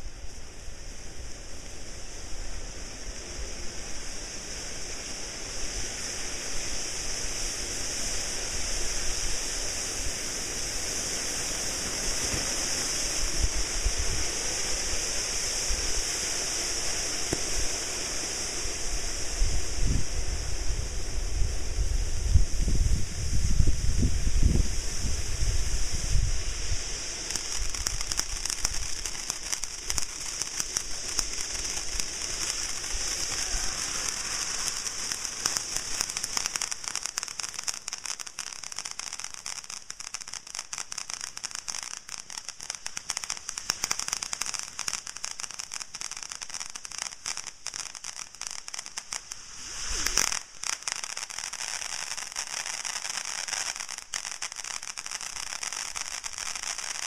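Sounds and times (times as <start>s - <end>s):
firework fountains hissing and crackling: 0.0s - 57.0s.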